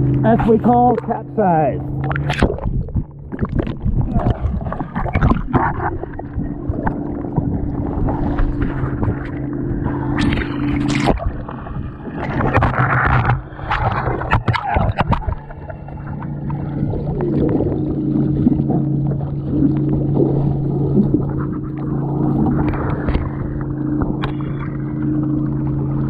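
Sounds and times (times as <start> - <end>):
steady low drone: 0.0 - 26.0
water splashing and gurgling: 0.0 - 26.0.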